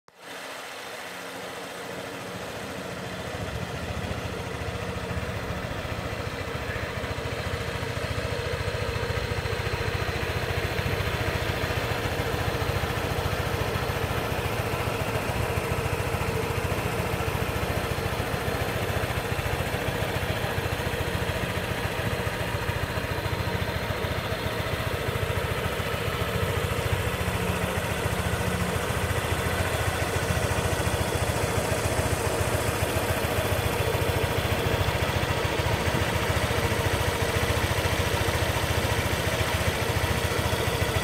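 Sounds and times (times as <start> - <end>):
scooter engine idling: 0.1 - 41.0.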